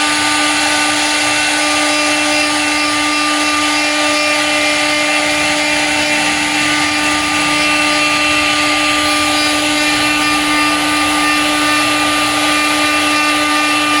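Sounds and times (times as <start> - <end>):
wood-turning lathe whine: 0.0 - 14.0.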